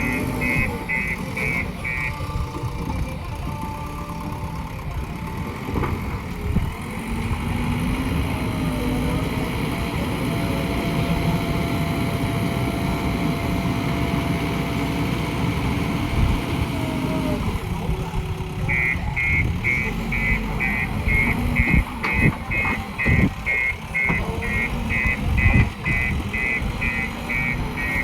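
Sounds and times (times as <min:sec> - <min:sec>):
backhoe diesel engine running hard: 0:00.0 - 0:28.0.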